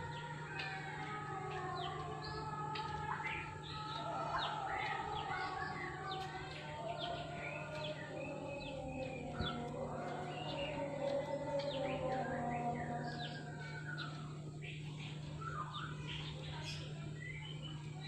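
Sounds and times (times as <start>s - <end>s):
birds chirping and trilling: 0.0s - 18.0s
steady low hum: 0.0s - 18.0s.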